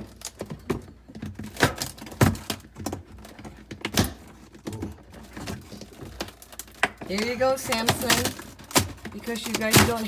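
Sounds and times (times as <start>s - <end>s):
plastic parts clicking and knocking: 0.0s - 10.0s.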